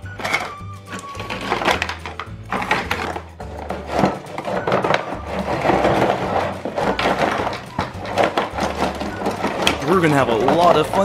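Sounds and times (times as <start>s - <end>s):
plastic toys clattering: 0.0s - 11.0s.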